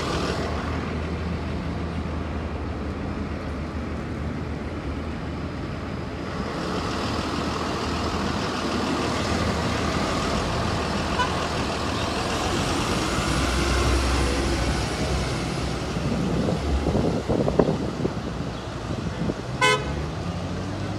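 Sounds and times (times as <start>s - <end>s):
bus engine drone: 0.0s - 20.9s.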